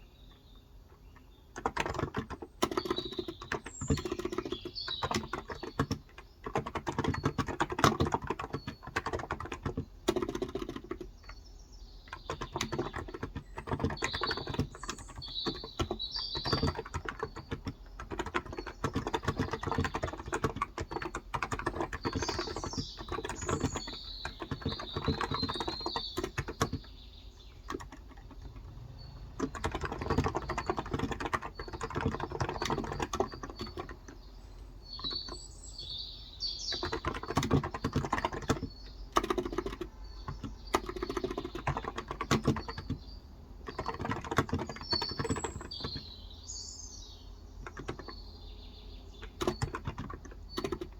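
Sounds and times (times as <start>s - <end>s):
small birds chirping: 0.0s - 50.9s
keyboard typing: 1.5s - 11.4s, 12.0s - 35.6s, 36.6s - 46.2s, 47.6s - 48.2s, 49.1s - 50.9s.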